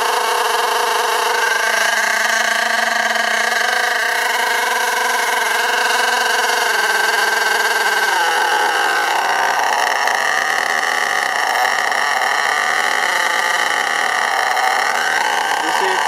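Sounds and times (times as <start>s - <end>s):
rc engine revving: 0.0s - 16.0s.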